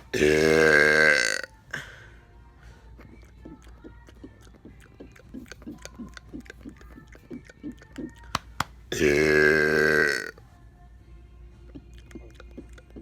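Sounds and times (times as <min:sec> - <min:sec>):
faint music with low beat: 0:00.0 - 0:13.0.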